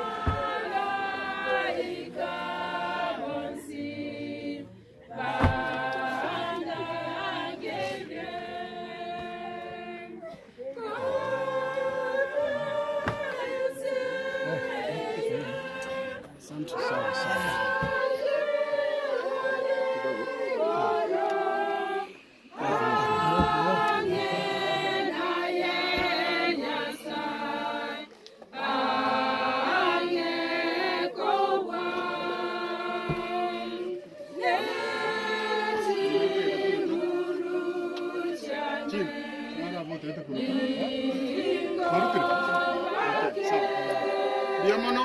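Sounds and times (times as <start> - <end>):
group singing unaccompanied: 0.0 - 45.0.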